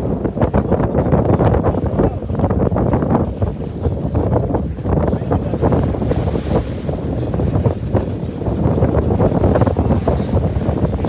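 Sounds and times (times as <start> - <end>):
waves slapping a boat: 0.0 - 11.0
wind buffeting microphone: 0.0 - 11.0.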